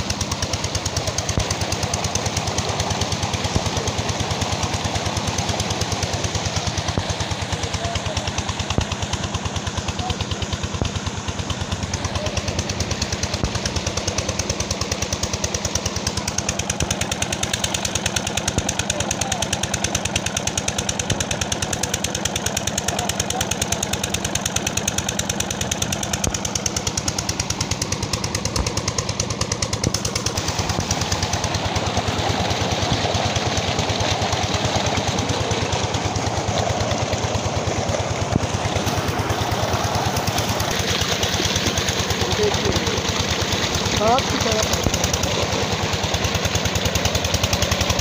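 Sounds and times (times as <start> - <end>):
diesel engine knocking: 0.0 - 48.0
water gushing from a pipe: 0.0 - 48.0.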